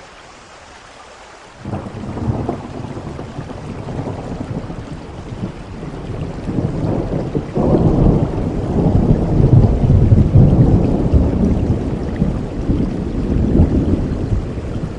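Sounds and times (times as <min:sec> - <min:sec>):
steady rain: 0:00.0 - 0:14.9
thunder rumbling: 0:01.6 - 0:14.9.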